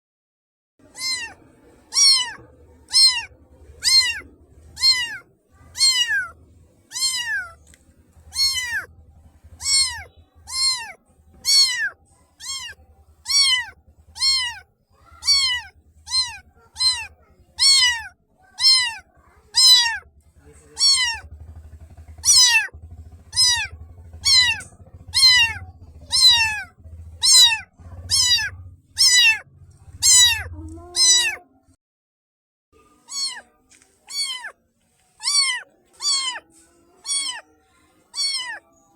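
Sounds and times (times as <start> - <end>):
kitten meowing: 0.9 - 8.9, 9.6 - 21.4, 22.2 - 31.5, 33.1 - 34.5, 35.2 - 38.6.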